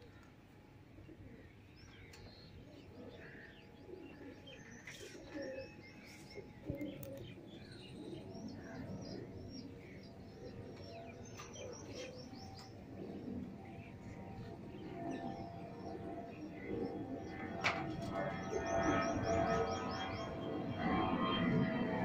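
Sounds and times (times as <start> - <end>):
pigeons cooing: 0.9 - 21.9
birds chirping: 1.0 - 22.0.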